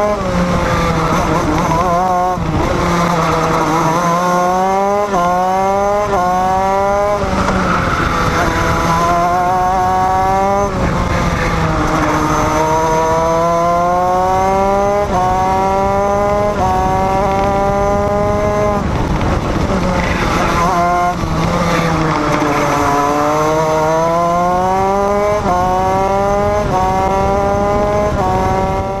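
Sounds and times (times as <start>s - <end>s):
racing engine revving through gears: 0.0s - 29.0s.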